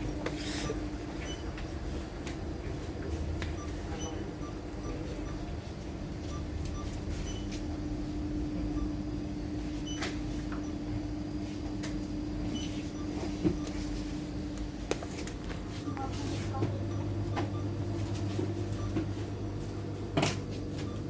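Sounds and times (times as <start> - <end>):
atm machine humming: 0.0 - 21.0.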